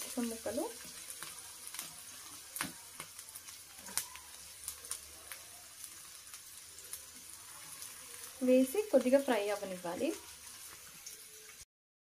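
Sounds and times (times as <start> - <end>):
vegetables sizzling in oil: 0.0 - 11.7.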